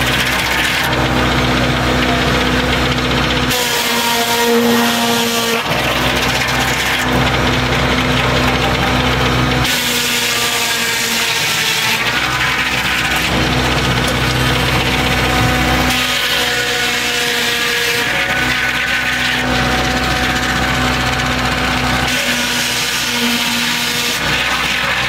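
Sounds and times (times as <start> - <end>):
mill drive running: 0.0 - 4.4, 5.6 - 25.0
saw blade cutting log: 0.0 - 25.0.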